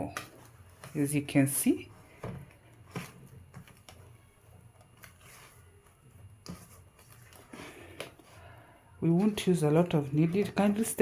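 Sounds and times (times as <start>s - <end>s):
dough squelching: 0.0s - 11.0s.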